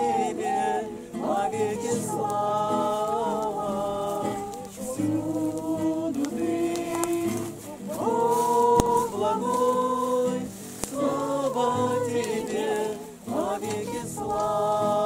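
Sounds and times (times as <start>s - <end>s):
acoustic guitar strummed: 0.0s - 15.0s
group singing a hymn: 0.0s - 15.0s.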